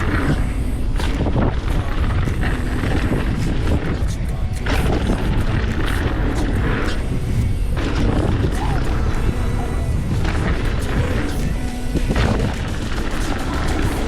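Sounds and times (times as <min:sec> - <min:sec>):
music with heavy bass: 0:00.0 - 0:14.0.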